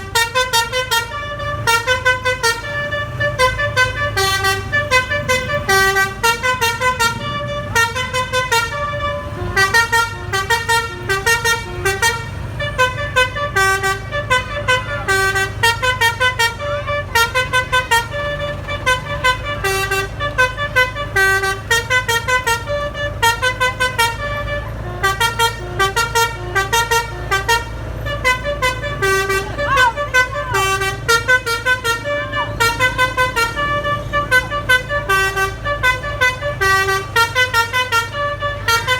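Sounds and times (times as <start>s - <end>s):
bus engine humming: 0.0s - 38.9s
multi-tone bus air horn melody: 0.0s - 38.9s.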